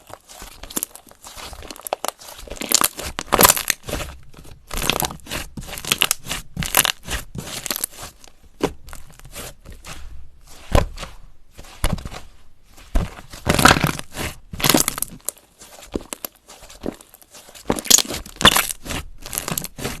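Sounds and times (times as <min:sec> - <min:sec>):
slime crunching and crackling: 0:00.0 - 0:20.0.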